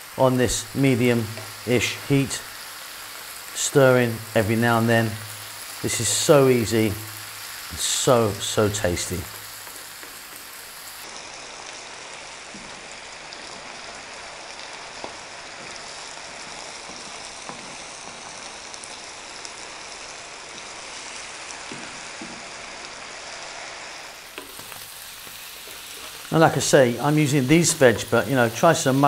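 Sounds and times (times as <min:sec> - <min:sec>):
vegetables sizzling in a frying pan: 0:00.0 - 0:29.0.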